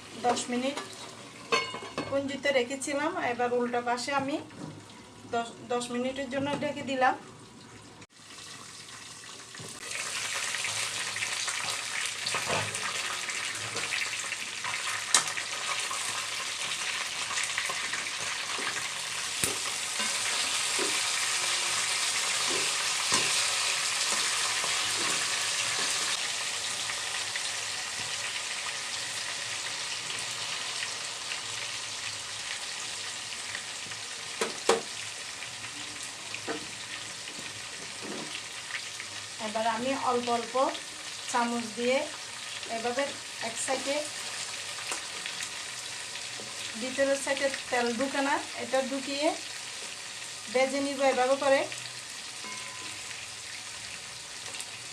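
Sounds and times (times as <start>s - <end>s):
chicken sizzling in a frying pan: 0.0s - 6.0s, 7.8s - 54.9s.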